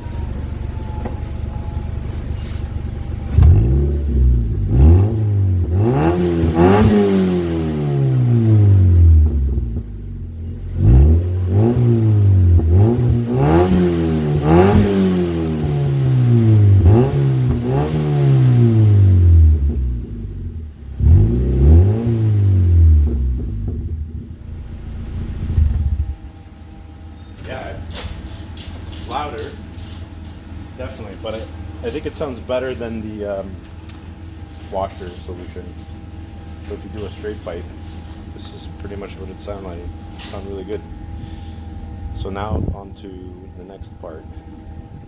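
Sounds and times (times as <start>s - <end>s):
loud car engine revving: 0.0s - 26.6s, 27.9s - 45.0s.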